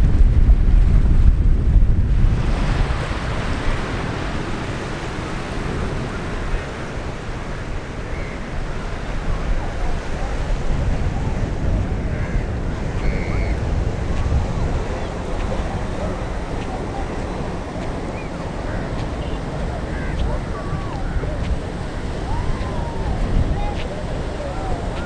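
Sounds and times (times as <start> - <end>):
surf washing onto beach: 0.0 - 25.0
wind buffeting microphone: 0.0 - 25.0.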